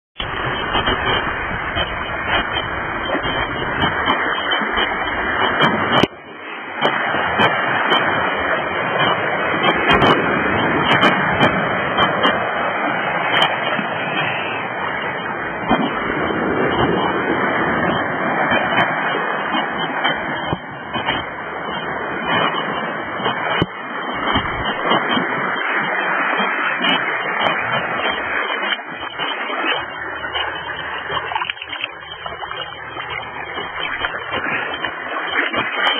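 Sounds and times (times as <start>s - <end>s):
sea surf washing over rocks: 0.2s - 35.9s.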